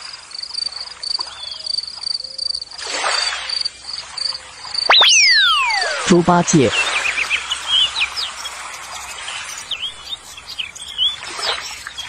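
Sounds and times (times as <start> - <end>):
small birds chirping: 0.3 - 12.0.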